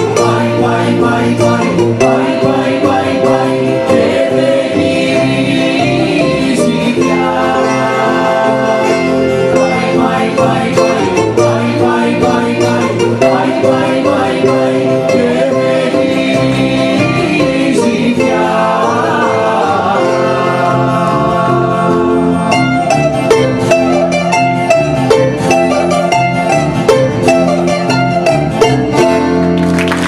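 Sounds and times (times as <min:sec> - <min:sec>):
band playing bouzouki and guitar: 0:00.0 - 0:30.0.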